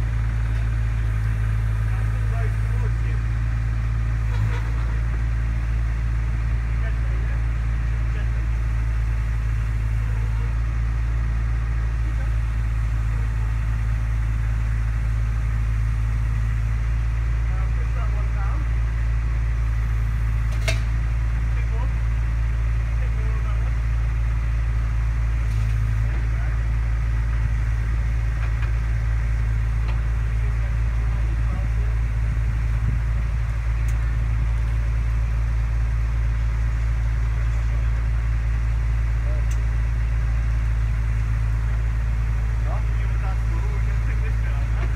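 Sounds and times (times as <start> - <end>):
mini digger engine droning: 0.0 - 44.9.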